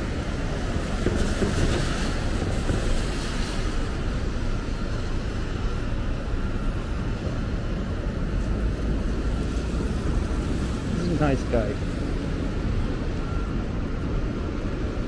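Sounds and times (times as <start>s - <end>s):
city street rumble: 0.0s - 15.0s.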